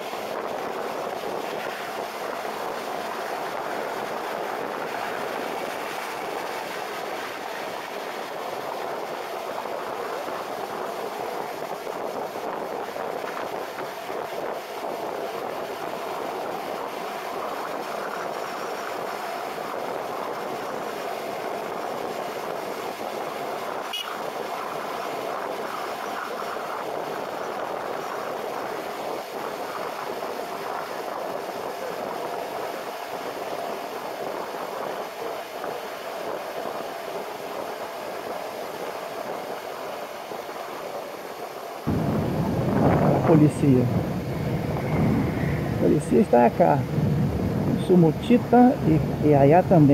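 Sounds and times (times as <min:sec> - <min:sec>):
wind and road noise: 0:00.0 - 0:49.9.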